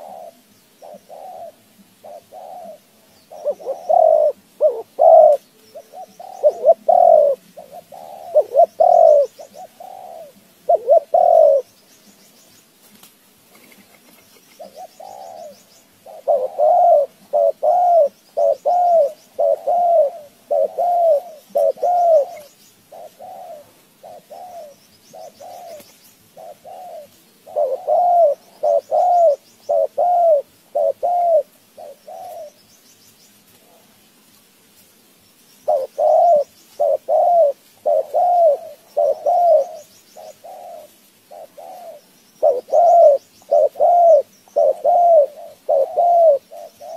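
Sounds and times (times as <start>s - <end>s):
pigeon cooing: 0.0s - 11.7s, 14.5s - 25.8s, 26.4s - 32.6s, 35.7s - 46.9s.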